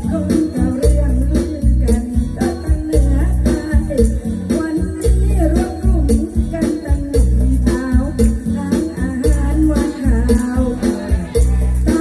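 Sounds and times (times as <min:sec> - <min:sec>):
bass beat: 0:00.0 - 0:12.0
guitar: 0:00.0 - 0:12.0
shaken percussion: 0:00.0 - 0:12.0
woman singing: 0:00.0 - 0:12.0.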